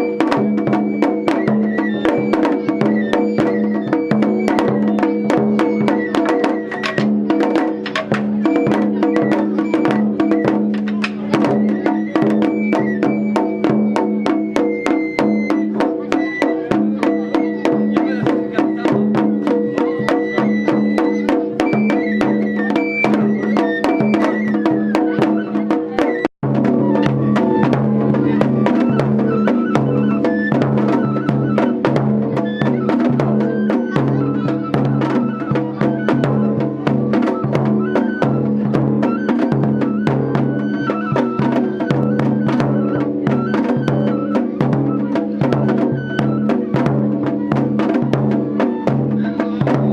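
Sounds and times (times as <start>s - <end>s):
drums struck rapidly: 0.0s - 49.9s.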